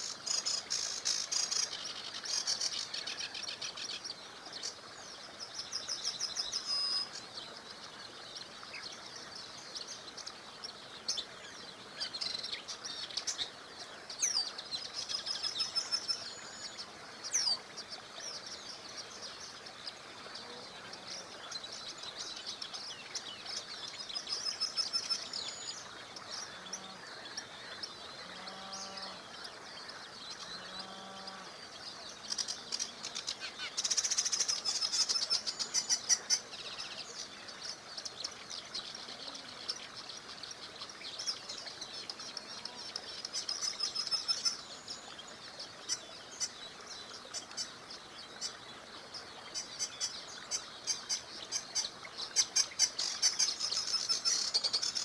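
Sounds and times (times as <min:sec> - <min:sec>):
small river rushing: 0:00.0 - 0:55.0
songbirds singing and chirping: 0:00.0 - 0:55.0.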